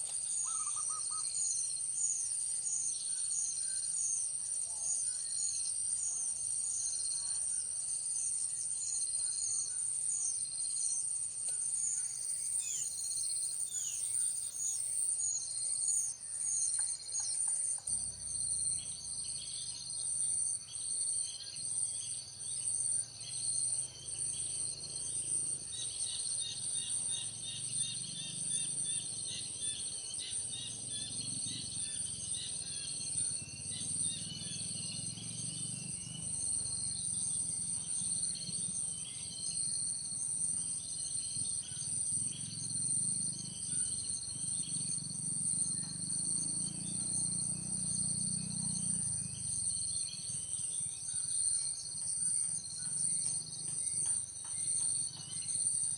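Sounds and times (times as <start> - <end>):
insect drone: 0.0 - 55.9.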